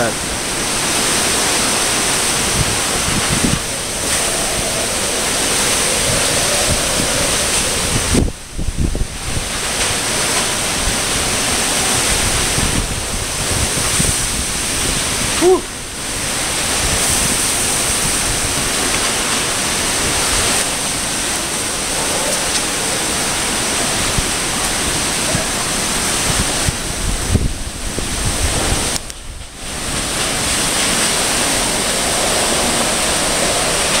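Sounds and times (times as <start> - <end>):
wind and rain rushing: 0.0 - 34.0
wind buffeting microphone: 0.0 - 34.0.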